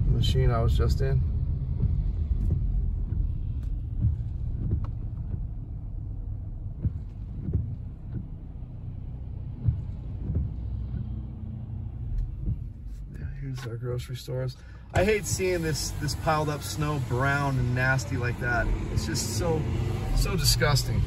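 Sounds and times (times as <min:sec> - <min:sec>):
vehicle rumble inside car: 0:00.0 - 0:21.0.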